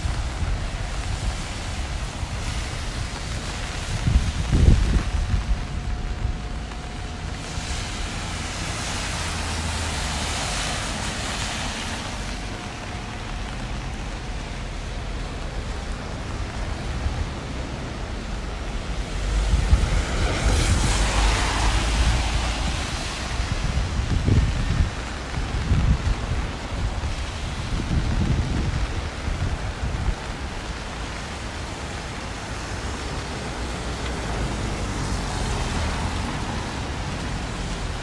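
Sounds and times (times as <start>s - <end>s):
rain hiss: 0.0s - 38.0s
wet street noise: 0.0s - 38.0s.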